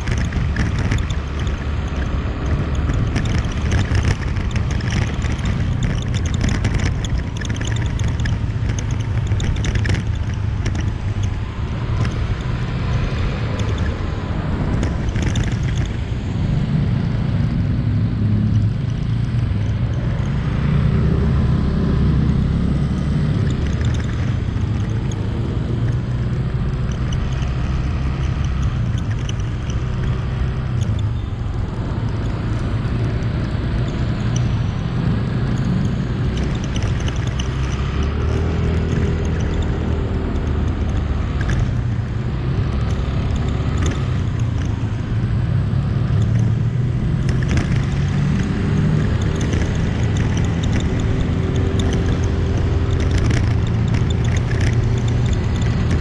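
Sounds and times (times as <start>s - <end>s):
motorbike engine running: 0.0s - 16.6s, 18.3s - 56.0s
road noise: 0.0s - 56.0s.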